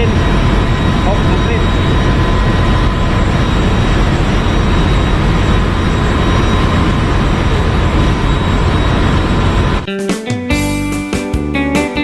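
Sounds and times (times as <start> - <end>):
constant machinery whine: 0.0 - 9.9
engine room machinery rumbling: 0.0 - 9.9.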